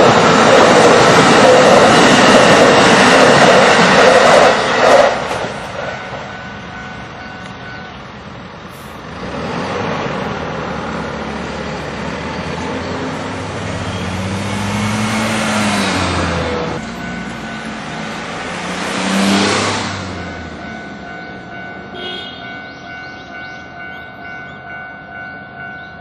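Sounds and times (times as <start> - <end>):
electric train passing: 0.0 - 26.0
road vehicles driving: 0.0 - 26.0.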